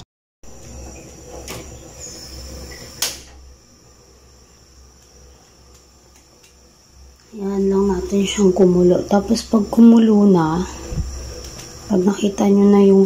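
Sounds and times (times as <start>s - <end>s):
low burner rumble: 0.5s - 13.0s.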